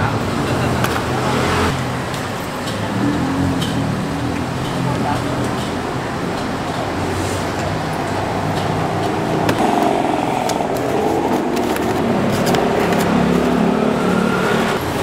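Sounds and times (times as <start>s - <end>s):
passing vehicle engines: 0.0s - 15.0s.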